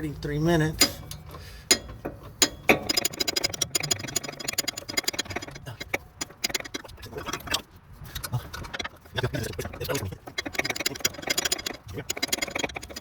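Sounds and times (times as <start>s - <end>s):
sharp metal clicks: 0.6s - 13.0s
socket wrench ratcheting: 0.8s - 7.6s, 8.6s - 13.0s.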